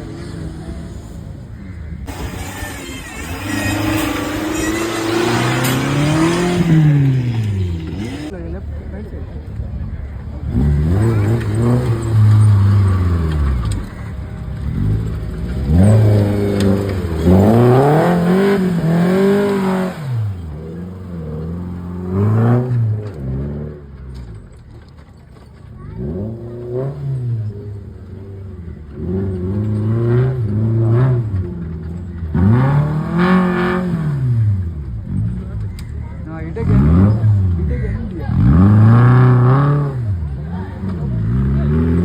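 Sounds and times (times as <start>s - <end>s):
jeep engine revving: 0.0s - 42.0s.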